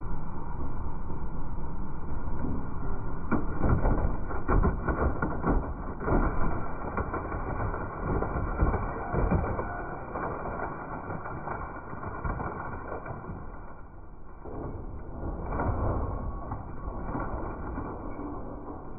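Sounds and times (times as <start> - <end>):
excavator engine running: 1.3 - 18.9
crunching and cracking: 3.3 - 18.9.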